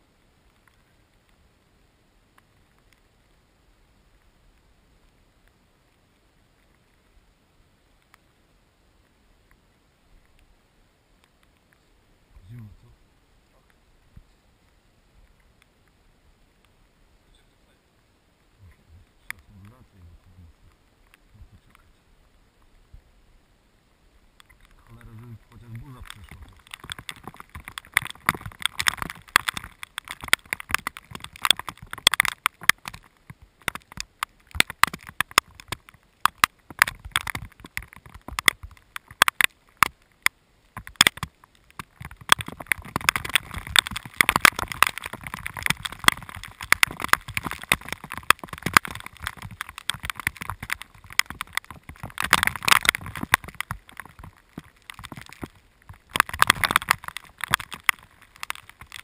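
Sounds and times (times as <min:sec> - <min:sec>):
raindrops clicking on camera: 0:00.0 - 0:23.5, 0:24.1 - 0:59.0
hiss of falling rain: 0:00.0 - 0:59.0.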